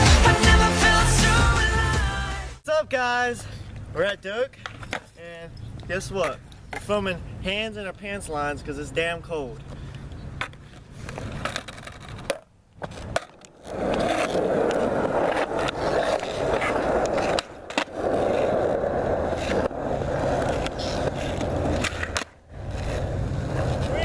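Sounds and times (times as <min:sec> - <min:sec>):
skateboard wheels rolling on asphalt: 0:03.7 - 0:24.0.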